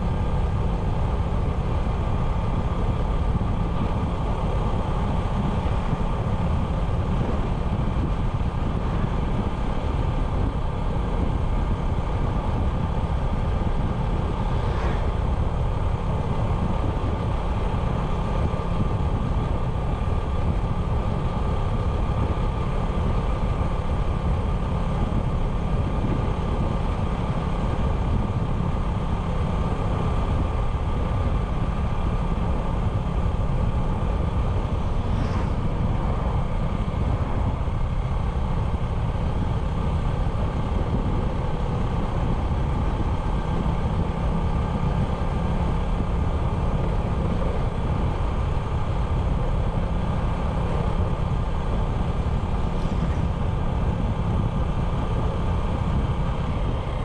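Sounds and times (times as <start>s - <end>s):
low riding rumble: 0.0s - 57.0s
motorbike engine humming: 0.0s - 57.0s.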